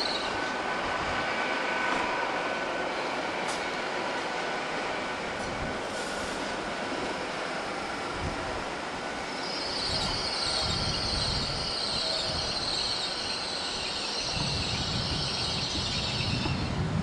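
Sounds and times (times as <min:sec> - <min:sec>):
train carriages rumbling past: 0:00.0 - 0:17.0.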